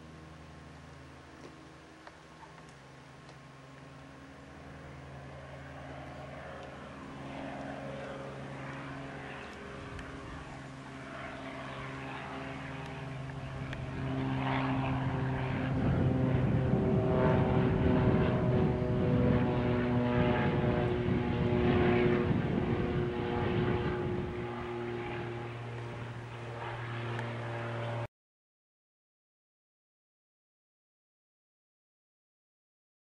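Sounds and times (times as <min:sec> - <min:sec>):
propeller plane engine droning: 0:00.0 - 0:28.1.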